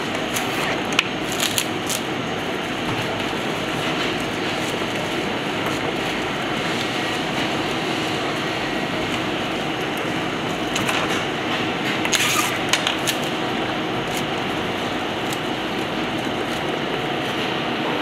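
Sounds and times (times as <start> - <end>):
cling film crinkling: 0.2 - 17.6.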